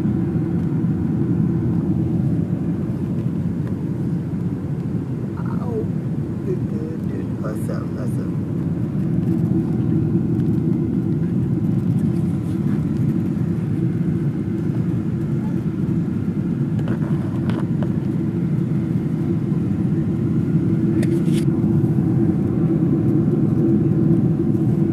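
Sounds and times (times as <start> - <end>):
jet engine cabin rumble: 0.0 - 24.9.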